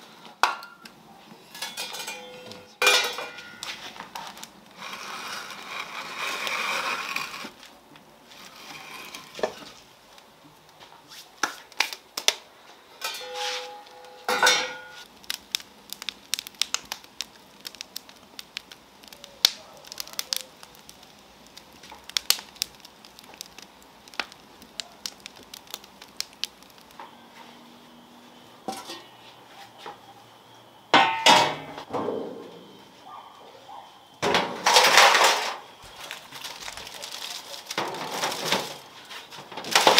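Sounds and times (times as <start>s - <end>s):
wood fire crackling and popping: 0.0s - 29.2s, 34.0s - 39.9s.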